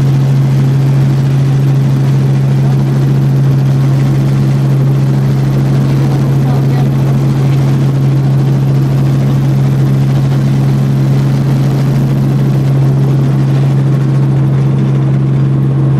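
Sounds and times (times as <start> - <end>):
helicopter engine and rotor drone: 0.0 - 15.9.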